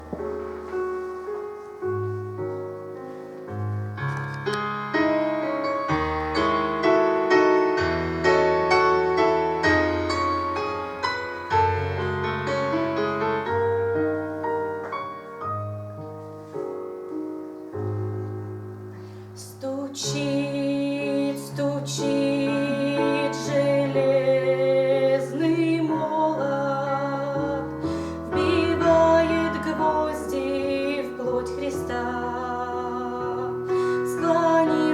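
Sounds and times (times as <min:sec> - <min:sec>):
keyboard piano-like chords: 0:00.0 - 0:34.9.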